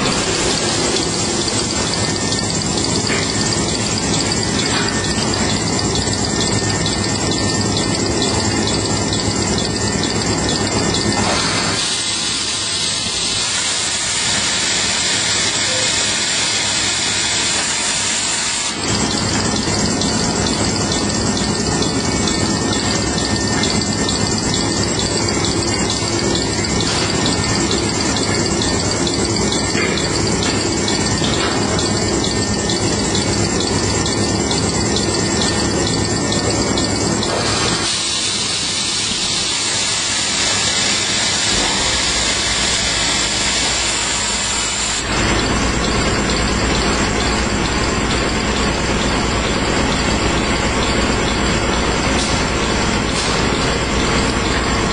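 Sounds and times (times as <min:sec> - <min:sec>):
fast regular ticking: 0:00.0 - 0:15.9, 0:18.7 - 0:54.9
paper machinery hiss and hum: 0:00.0 - 0:54.9.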